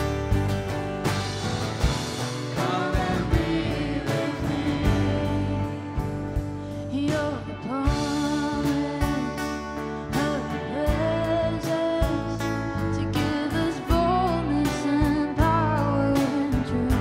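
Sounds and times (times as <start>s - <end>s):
band playing worship song: 0.0s - 17.0s.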